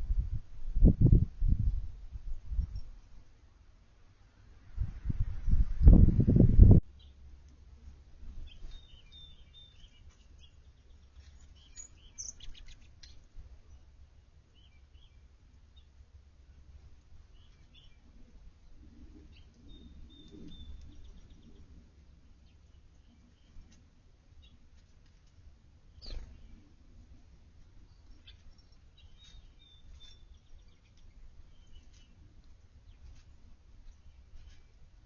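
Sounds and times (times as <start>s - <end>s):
small birds chirping: 6.9s - 35.0s.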